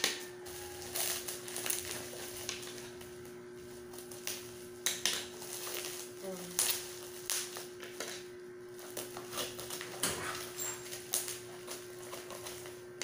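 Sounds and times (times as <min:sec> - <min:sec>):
bubble wrap crinkling: 0:00.0 - 0:13.0
steady hum: 0:00.0 - 0:13.0.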